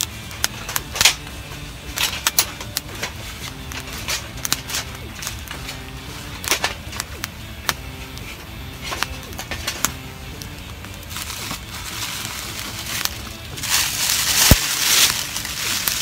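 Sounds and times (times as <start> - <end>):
logs knocking onto fire: 0.0 - 16.0
wood fire crackling and popping: 0.0 - 16.0.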